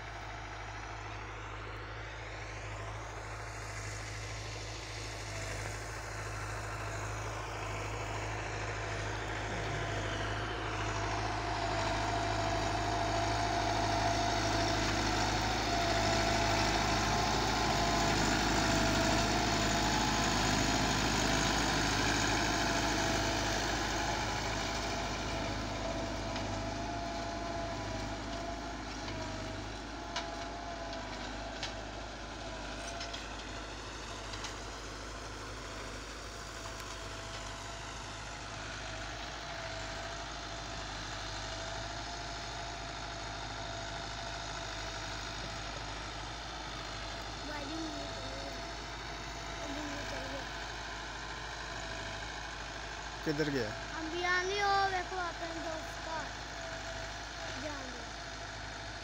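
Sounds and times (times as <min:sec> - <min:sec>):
tractor diesel engine: 0:00.0 - 0:59.0.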